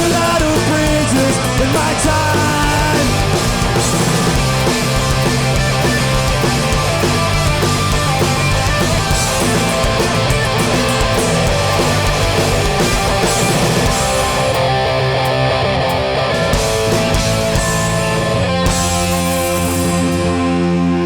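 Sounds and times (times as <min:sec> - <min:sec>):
punk band playing live: 0:00.0 - 0:21.0.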